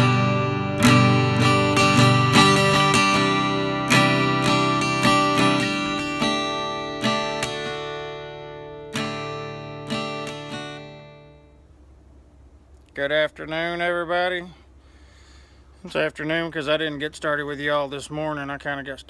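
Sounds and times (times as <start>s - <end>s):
strummed acoustic guitar chords: 0.0s - 17.8s.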